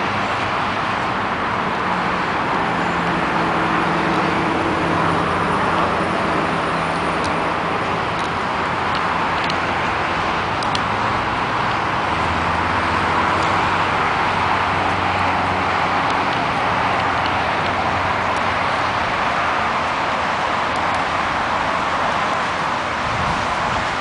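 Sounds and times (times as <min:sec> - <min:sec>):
freeway traffic hiss: 0:00.0 - 0:24.0.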